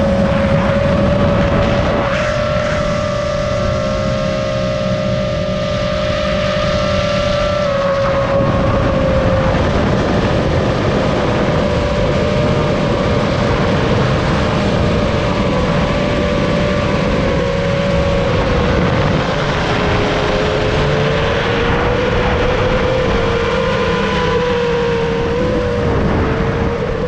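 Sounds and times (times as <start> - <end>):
drone motors whining: 0.0 - 27.0
propeller air rush: 0.0 - 27.0.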